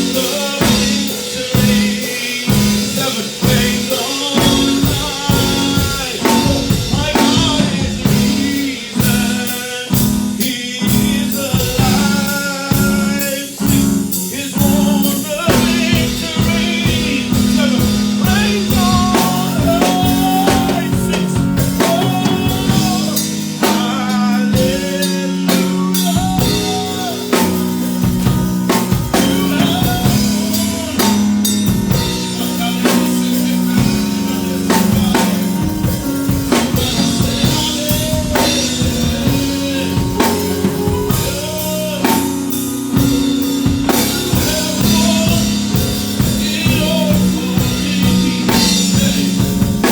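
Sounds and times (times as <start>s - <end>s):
drum rimshots and bass drum: 0.0s - 49.9s
live band playing worship song: 0.0s - 49.9s.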